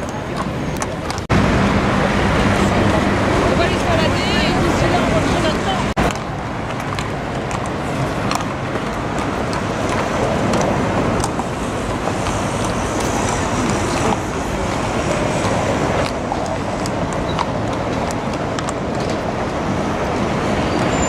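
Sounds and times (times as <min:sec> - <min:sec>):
horse hooves on paving: 0:00.0 - 0:21.0
road traffic: 0:00.0 - 0:21.0.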